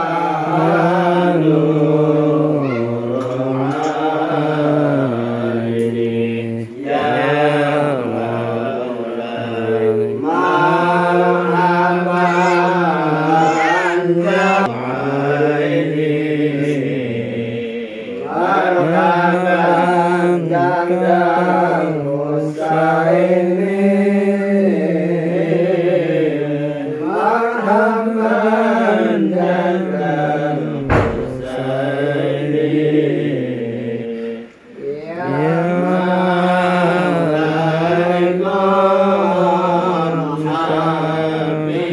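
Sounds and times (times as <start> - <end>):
men chanting together: 0.0 - 41.9.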